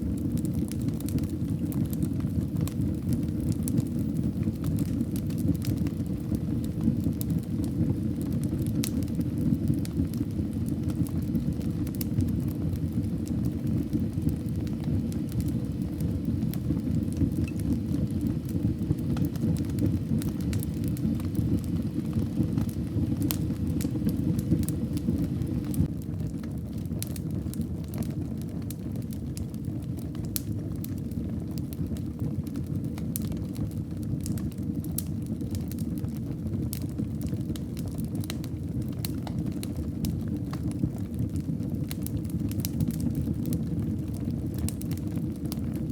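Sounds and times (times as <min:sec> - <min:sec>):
fire crackling and popping: 0:00.0 - 0:45.9
fire rumbling: 0:00.0 - 0:45.9.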